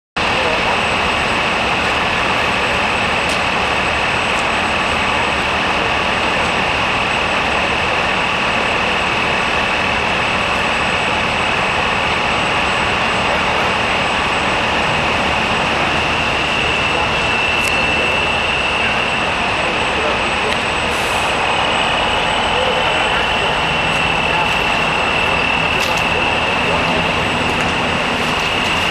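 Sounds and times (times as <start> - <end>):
boat engine droning: 0.2 - 28.9
high-pitched whine: 0.2 - 28.9.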